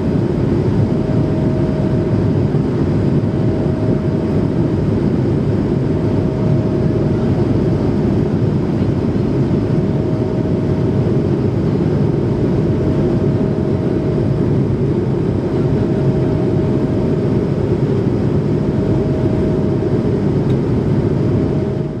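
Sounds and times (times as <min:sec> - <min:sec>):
jet engine roar in cabin: 0:00.0 - 0:22.0
thin steady whine: 0:00.0 - 0:22.0.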